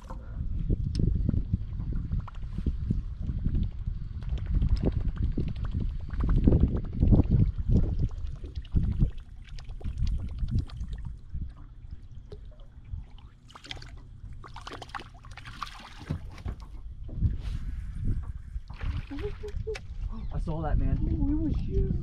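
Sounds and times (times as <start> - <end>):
wind buffeting microphone: 0.0 - 13.3, 15.9 - 22.0
water lapping against boat hull: 0.0 - 22.0.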